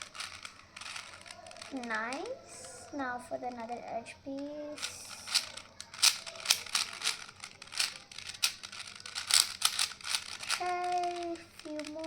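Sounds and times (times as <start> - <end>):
puzzle cube layers clicking: 0.0 - 2.8, 4.4 - 12.0.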